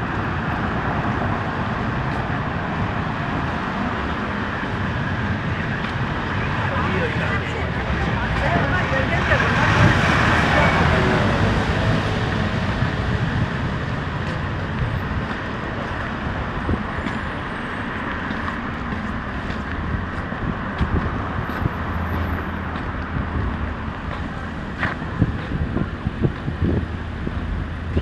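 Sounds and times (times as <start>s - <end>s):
passing cars and engines: 0.0s - 28.0s.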